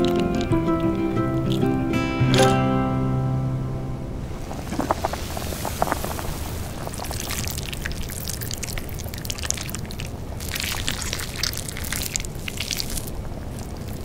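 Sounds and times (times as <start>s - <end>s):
sauce crackling and dripping: 0.0s - 2.6s, 4.5s - 14.0s.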